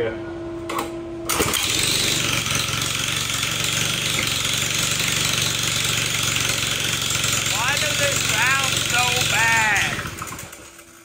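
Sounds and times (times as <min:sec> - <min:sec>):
small engine running fast: 0:01.3 - 0:11.0.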